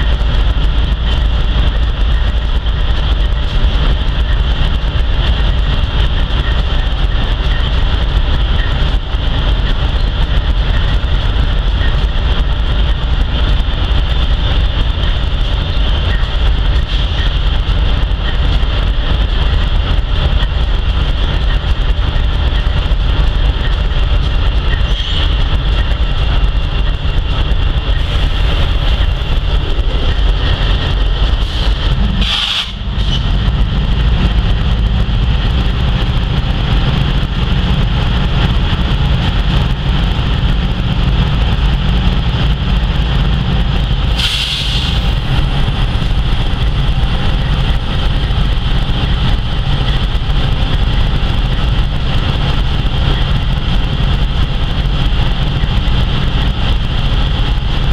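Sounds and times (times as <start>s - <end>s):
freight train rumbling past: 0.0s - 57.9s
high whine: 0.0s - 57.9s.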